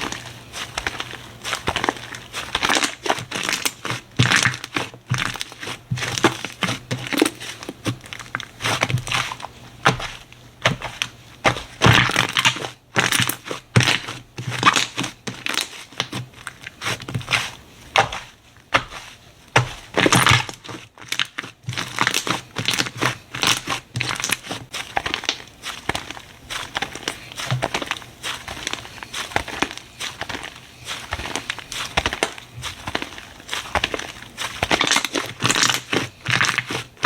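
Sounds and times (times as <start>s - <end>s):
slime squishing with sticky pops: 0.0s - 37.0s.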